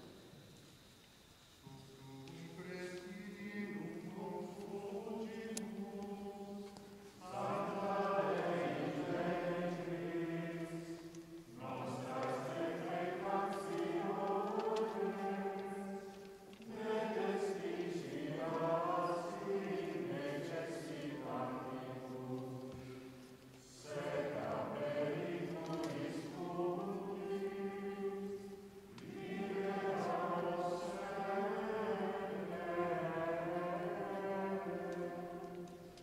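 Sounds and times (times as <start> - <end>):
congregation singing a hymn: 1.6 - 36.0.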